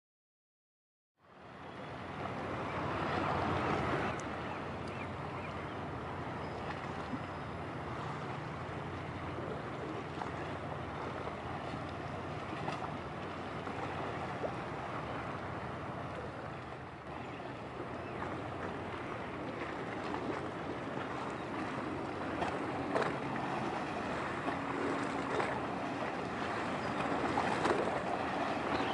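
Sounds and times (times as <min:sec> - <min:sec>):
sea noise: 0:01.2 - 0:28.9
ship engine drone: 0:01.2 - 0:28.9
wind: 0:01.2 - 0:28.9.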